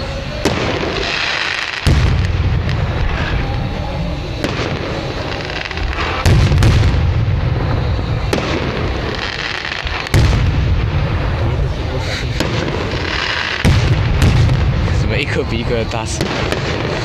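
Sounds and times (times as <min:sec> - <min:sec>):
firework shells booming: 0:00.0 - 0:17.0
rolling rumble: 0:00.0 - 0:17.0
sharp firework cracks: 0:00.0 - 0:17.0.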